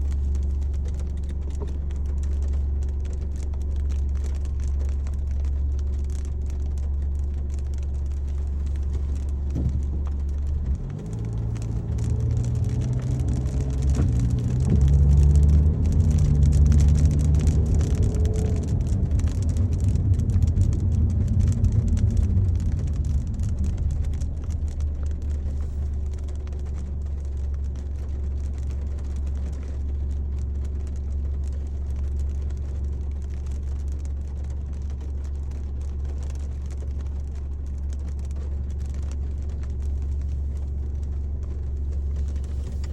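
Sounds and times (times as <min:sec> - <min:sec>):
light rain ticking: 0:00.0 - 0:42.9
road and engine rumble: 0:00.0 - 0:42.9.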